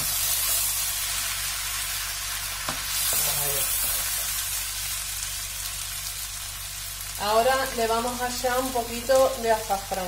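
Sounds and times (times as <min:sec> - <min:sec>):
rice sizzling in oil: 0:00.0 - 0:10.0.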